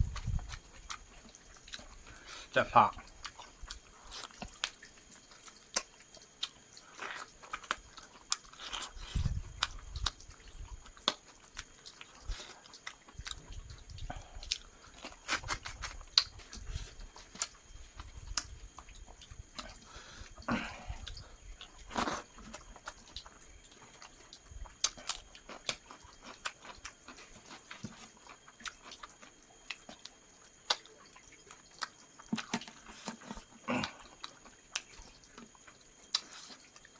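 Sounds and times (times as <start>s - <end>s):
person chewing: 0.0s - 36.9s.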